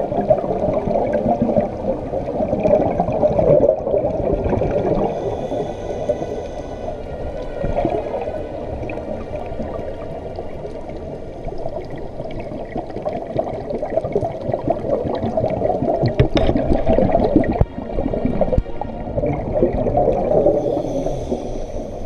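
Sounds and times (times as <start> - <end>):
diver bubbles gurgling underwater: 0.0 - 5.7, 7.6 - 22.0.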